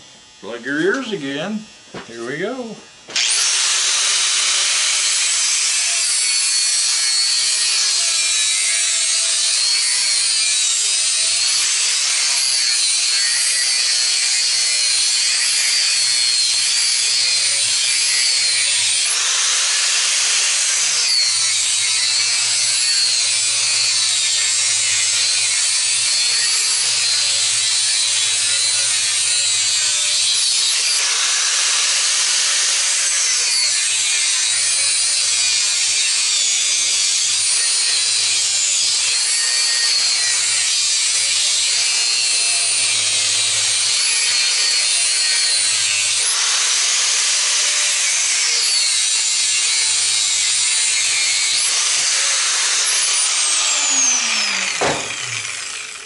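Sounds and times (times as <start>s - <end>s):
angle grinder cutting metal: 0.0s - 56.0s.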